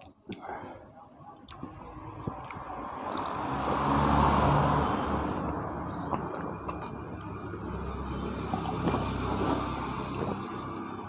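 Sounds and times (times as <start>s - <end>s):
vehicle passing by: 1.8s - 11.0s.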